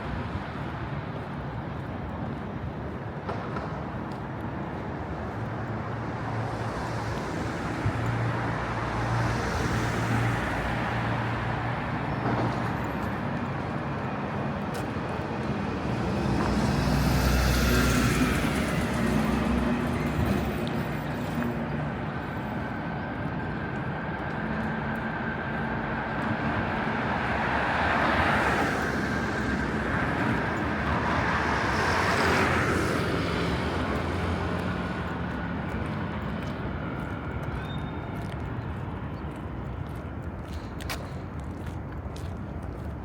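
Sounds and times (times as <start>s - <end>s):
hum of motor vehicles: 0.0s - 43.0s
vehicles passing: 0.0s - 43.0s.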